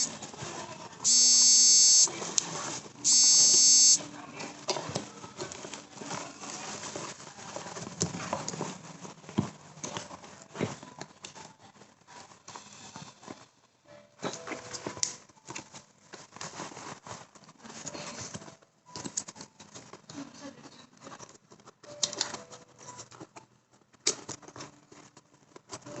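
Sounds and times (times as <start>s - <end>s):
objects rustling and clicking: 2.0s - 3.1s, 4.0s - 26.0s.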